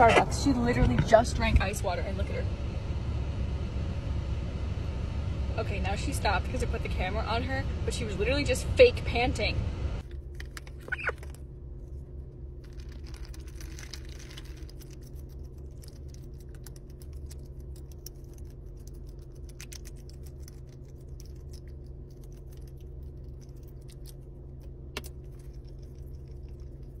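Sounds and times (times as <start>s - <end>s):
low hum inside car: 0.0s - 27.0s.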